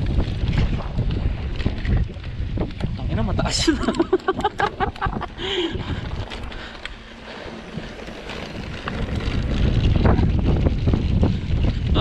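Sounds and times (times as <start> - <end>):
bike tyres rolling and rattling: 0.0 - 12.0
wind buffeting microphone: 0.0 - 12.0.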